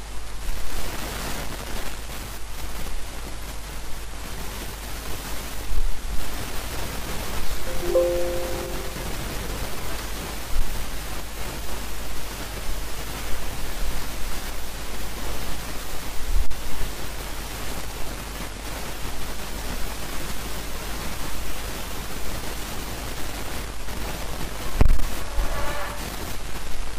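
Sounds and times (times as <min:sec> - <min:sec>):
microphone hiss: 0:00.0 - 0:26.9.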